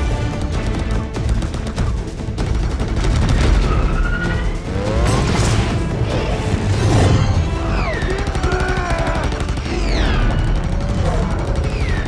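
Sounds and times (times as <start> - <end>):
action movie music: 0.0 - 12.0
rapid gunfire: 0.0 - 12.0.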